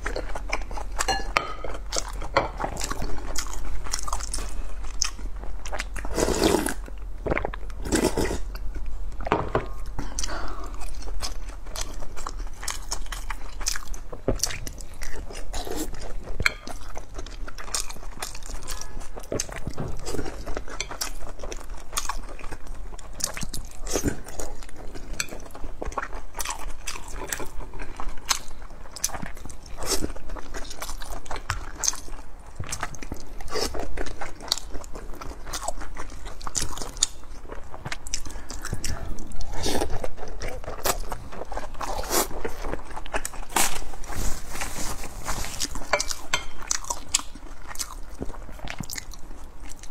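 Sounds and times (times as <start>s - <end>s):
chewing and wet mouth sounds: 0.0s - 49.9s.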